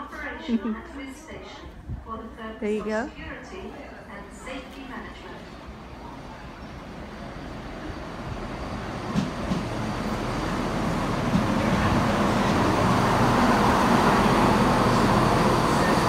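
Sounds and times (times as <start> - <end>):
train rumbling past: 1.2 - 16.0.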